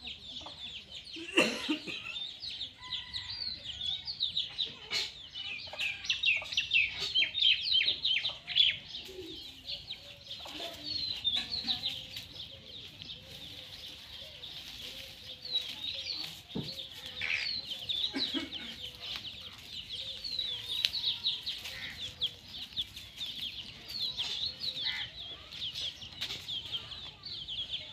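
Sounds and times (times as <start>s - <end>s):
chickens clucking softly: 3.1s - 27.9s.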